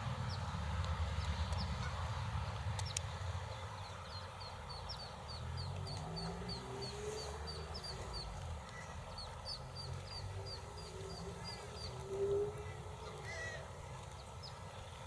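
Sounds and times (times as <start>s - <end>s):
ducklings peeping: 2.8s - 15.0s.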